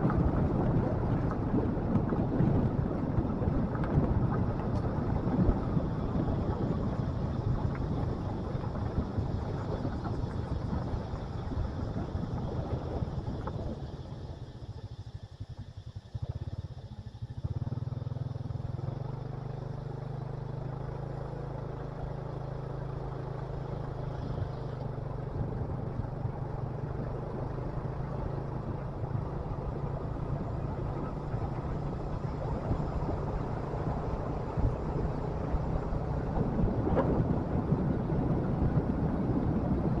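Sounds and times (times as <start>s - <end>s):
wind and road noise: 0.0s - 16.0s, 16.8s - 40.0s
motorcycle engine running: 0.0s - 40.0s.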